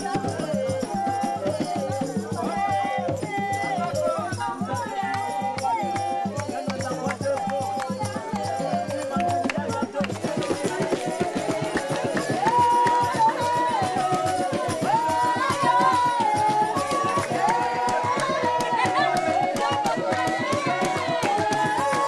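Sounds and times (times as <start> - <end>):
group singing: 0.0 - 22.0
shaken rattle: 0.0 - 22.0.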